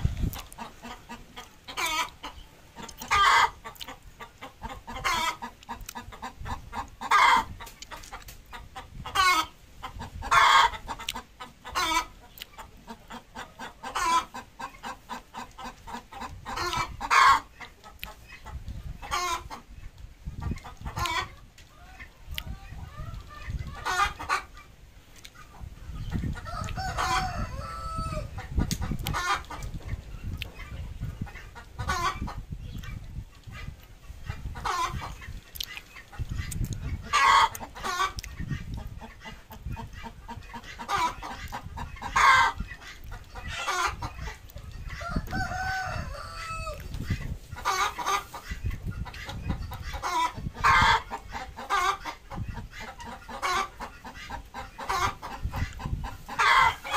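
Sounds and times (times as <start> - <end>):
chickens clucking: 0.0 - 56.9.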